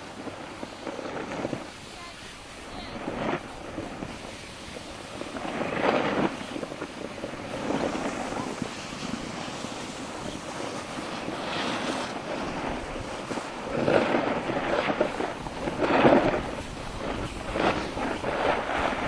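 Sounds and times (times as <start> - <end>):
skis scraping on snow: 0.0 - 19.0
wind rushing over microphone: 0.0 - 19.0.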